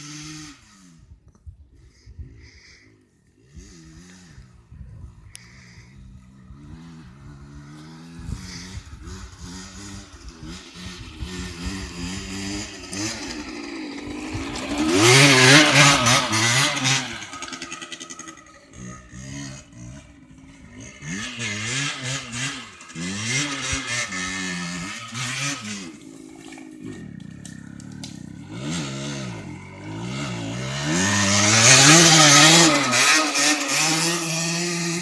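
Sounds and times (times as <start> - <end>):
two-stroke motorbike engine revving: 0.0 - 1.2, 1.9 - 35.0.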